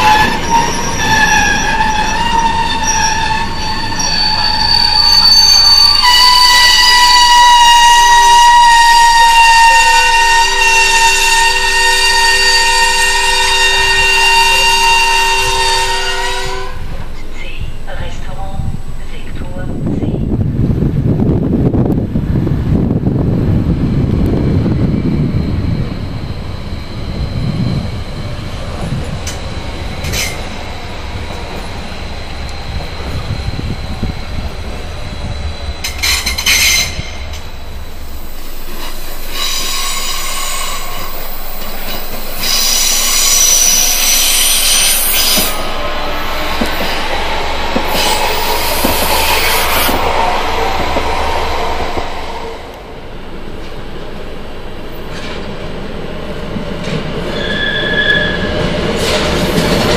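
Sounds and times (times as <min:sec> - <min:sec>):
high wheel squeal: 0:00.0 - 0:16.9, 0:23.8 - 0:52.8, 0:57.3 - 0:59.9
train wheels rumbling on rails: 0:00.0 - 0:59.9.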